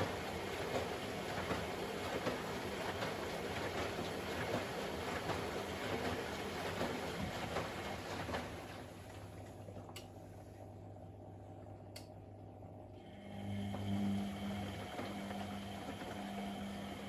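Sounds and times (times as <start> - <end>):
washing machine running: 0.0 - 17.0.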